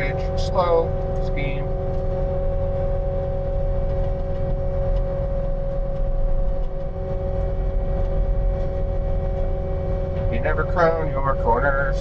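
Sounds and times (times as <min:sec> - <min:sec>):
diesel engine running under load: 0:00.0 - 0:12.0
steady engine whine: 0:00.0 - 0:12.0.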